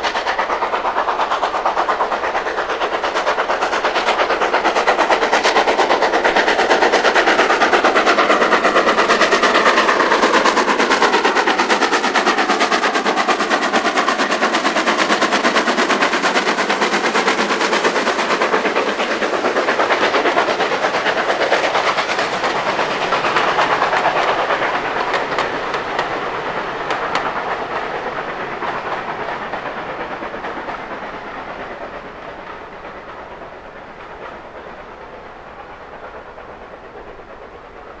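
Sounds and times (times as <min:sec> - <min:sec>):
train wheels clattering: 0:00.0 - 0:38.0.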